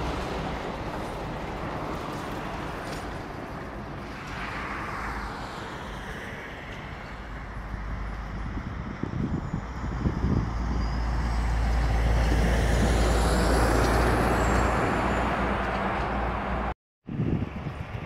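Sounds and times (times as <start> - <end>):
low traffic rumble: 0.0 - 18.0.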